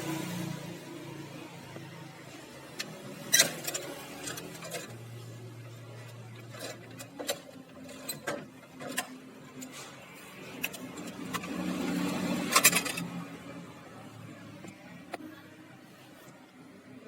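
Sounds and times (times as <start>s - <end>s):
photocopier humming: 0.8s - 17.0s.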